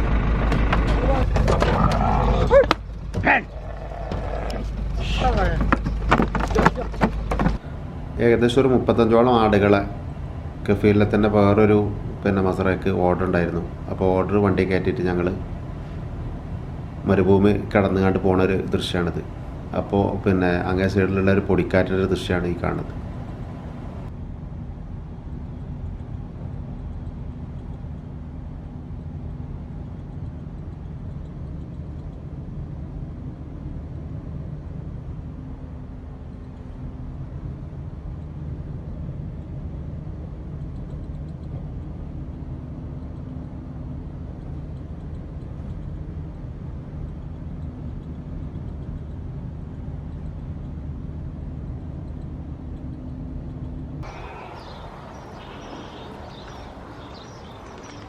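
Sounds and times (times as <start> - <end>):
road noise: 0.0 - 58.0
vehicle engine drone: 0.0 - 58.0.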